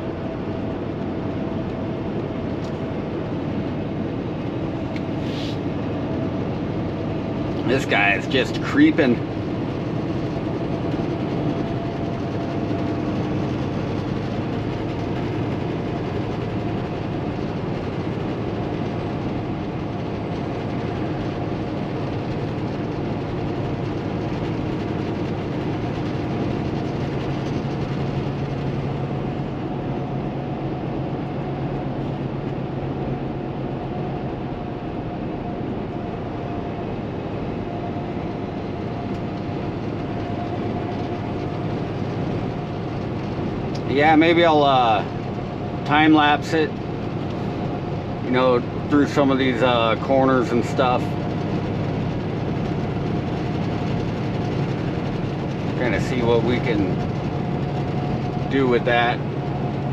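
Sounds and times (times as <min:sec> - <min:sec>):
truck diesel engine hum: 0:00.0 - 0:59.9.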